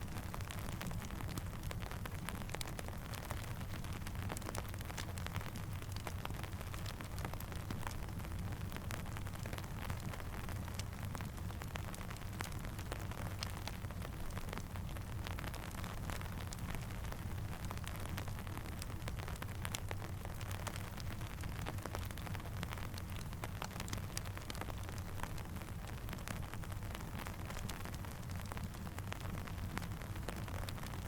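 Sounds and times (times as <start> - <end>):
campfire crackling and popping: 0.0 - 31.0
steady rain: 0.0 - 31.0.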